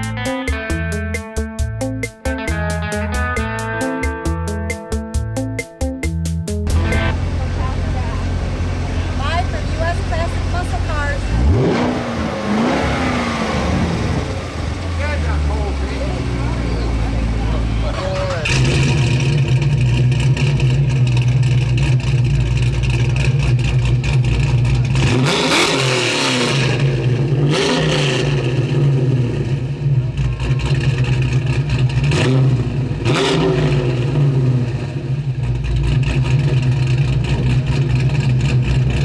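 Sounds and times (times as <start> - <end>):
car engine idling and revving: 6.6 - 39.0.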